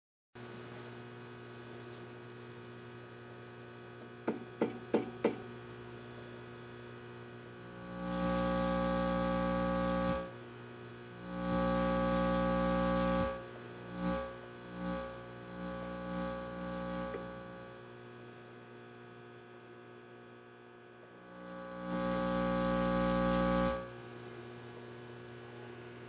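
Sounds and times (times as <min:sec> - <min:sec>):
buzzy mains hum: 0:00.4 - 0:26.0.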